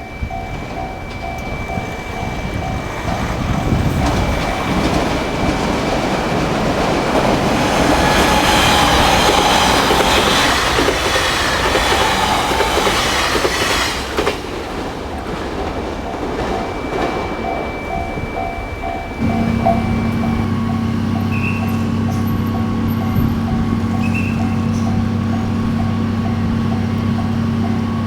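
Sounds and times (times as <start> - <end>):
crossing warning bell ringing: 0.0 - 13.9, 15.6 - 28.0
electric train passing: 0.0 - 28.0
train wheels clacking over rail joints: 0.0 - 28.0.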